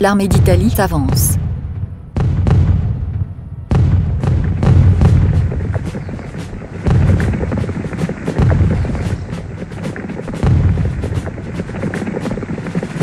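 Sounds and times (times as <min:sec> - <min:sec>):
deep cannon booms: 0:00.3 - 0:09.4, 0:10.2 - 0:12.5.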